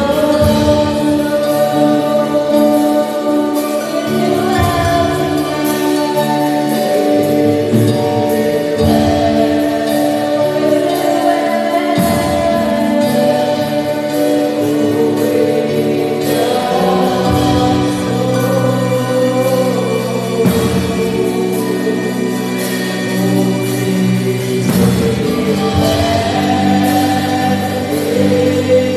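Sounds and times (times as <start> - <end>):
sustained instrumental chords: 0.0 - 28.9
voices singing: 0.0 - 28.9.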